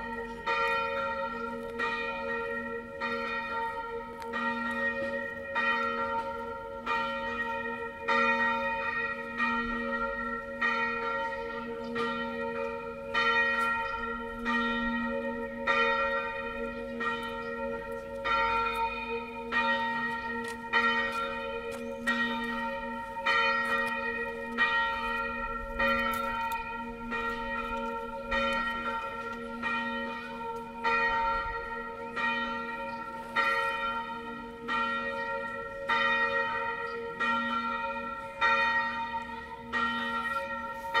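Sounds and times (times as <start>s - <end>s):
church bell ringing: 0.0s - 41.0s.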